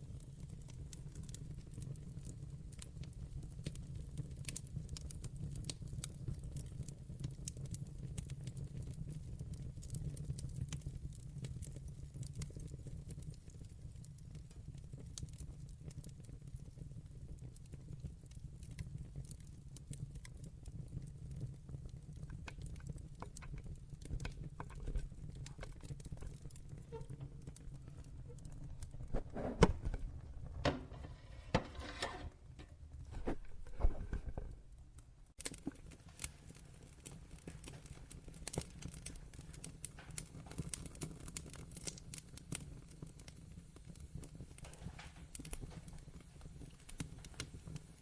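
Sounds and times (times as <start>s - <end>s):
low rumble of flame: 0.0s - 48.0s
wood fire crackling and popping: 0.0s - 48.0s.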